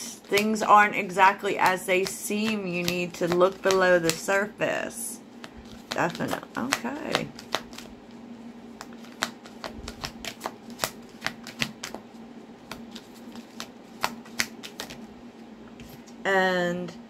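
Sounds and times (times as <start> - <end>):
faint steady hum: 0.0 - 17.0
cards being shuffled: 0.2 - 4.4, 5.3 - 15.1, 15.7 - 16.2.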